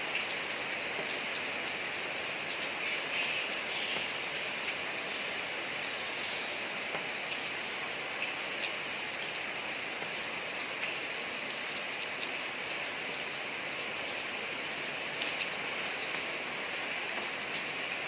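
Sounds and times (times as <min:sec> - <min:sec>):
raindrops ticking on hard surfaces: 0:00.0 - 0:18.0
steady rain hiss: 0:00.0 - 0:18.0.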